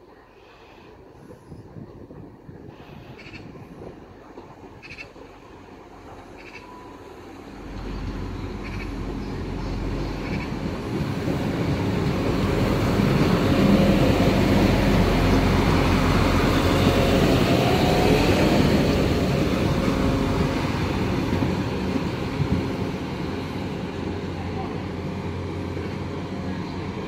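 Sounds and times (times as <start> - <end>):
train engine rumble: 0.0 - 27.0
train wheels on rails: 3.2 - 27.0.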